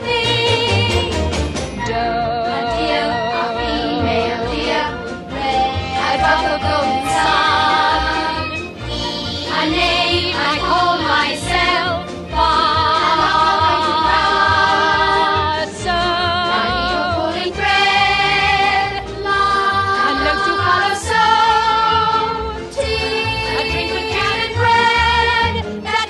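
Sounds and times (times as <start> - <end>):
instrumental accompaniment: 0.0 - 26.0
voices singing held notes: 0.0 - 26.0.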